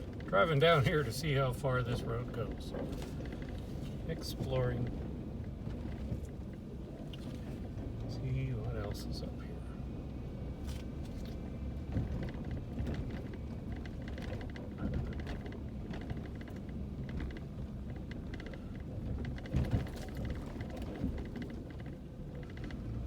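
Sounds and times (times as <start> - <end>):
road rumble inside vehicle: 0.0 - 23.0.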